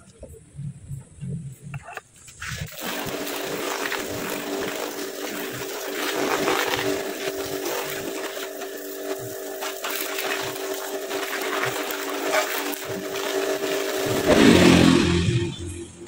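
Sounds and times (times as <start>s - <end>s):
continuous hiss: 0.0s - 14.8s
small motor humming: 2.7s - 16.0s.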